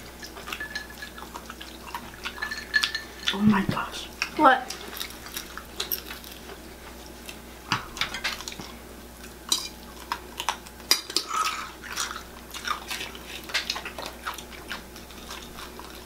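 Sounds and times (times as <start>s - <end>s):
chewing crispy fried chicken: 0.0s - 3.4s, 4.1s - 16.0s.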